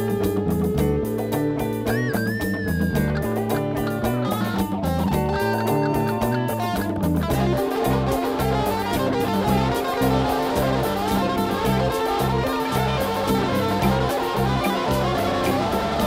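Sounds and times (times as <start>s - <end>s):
distorted electric guitar music: 0.0s - 16.0s.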